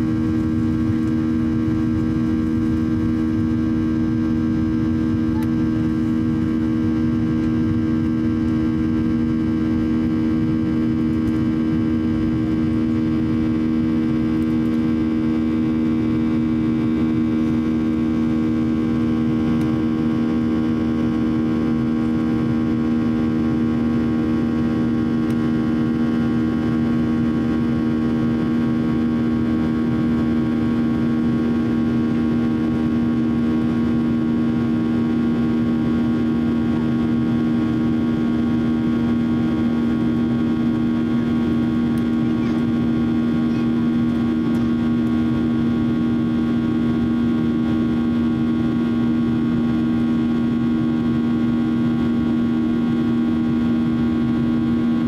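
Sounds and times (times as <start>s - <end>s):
airplane cabin engine hum: 0.0s - 55.0s.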